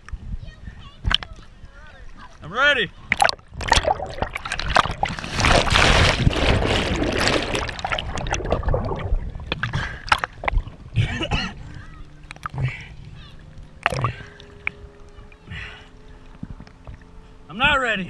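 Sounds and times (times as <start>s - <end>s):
water splashing and sloshing: 0.8s - 17.8s.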